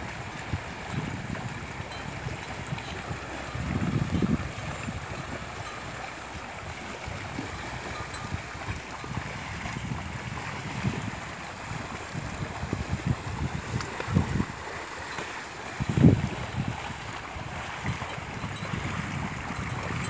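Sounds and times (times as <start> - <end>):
buffalo splashing through water: 0.0 - 20.0
wind buffeting microphone: 0.0 - 20.0.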